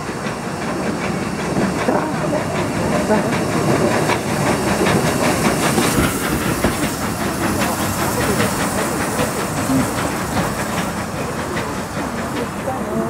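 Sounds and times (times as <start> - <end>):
steam hissing: 0.0 - 13.0
steam locomotive chuffing: 0.0 - 13.0.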